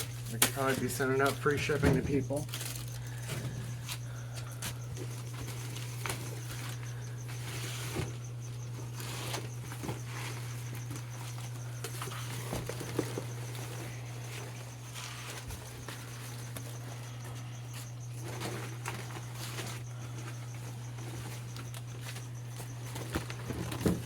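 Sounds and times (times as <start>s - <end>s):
box and packing rustling: 0.0s - 24.0s
steady low hum: 0.0s - 24.0s.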